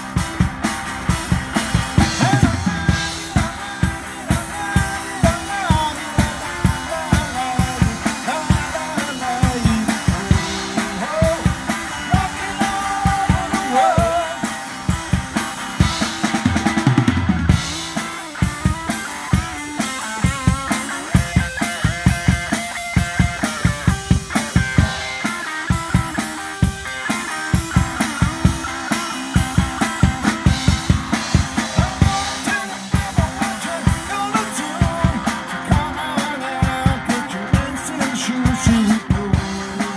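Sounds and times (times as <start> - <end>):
drum kit steady beat: 0.0 - 39.9.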